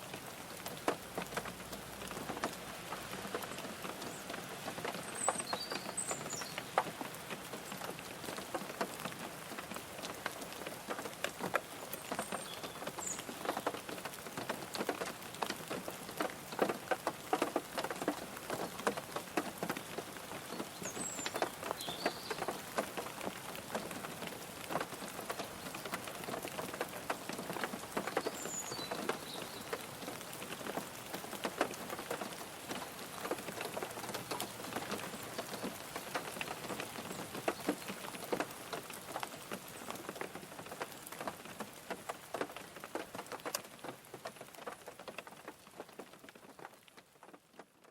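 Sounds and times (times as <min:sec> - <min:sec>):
rain on a car roof: 0:00.0 - 0:47.9.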